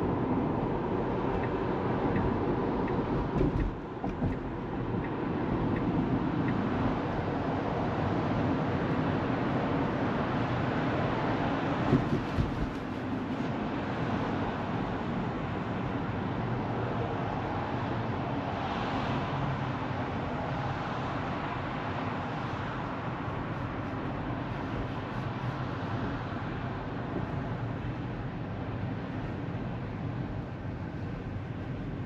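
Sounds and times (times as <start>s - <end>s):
tyre and road noise: 0.0s - 32.0s.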